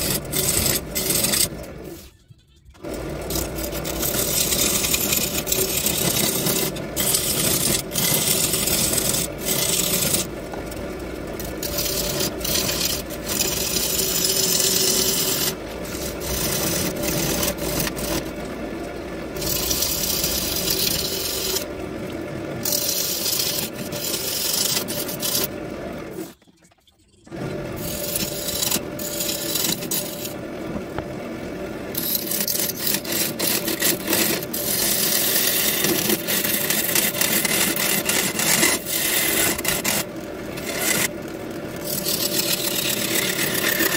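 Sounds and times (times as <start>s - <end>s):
wood lathe humming: 0.0s - 2.0s, 2.8s - 26.3s, 27.3s - 43.9s
turning tool shaving wood: 0.0s - 2.1s, 2.8s - 26.4s, 27.3s - 43.9s.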